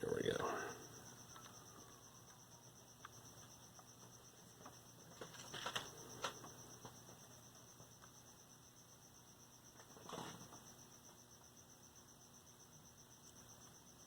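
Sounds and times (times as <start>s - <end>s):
faint high whine: 0.0s - 14.0s
low mains hum: 0.0s - 14.0s.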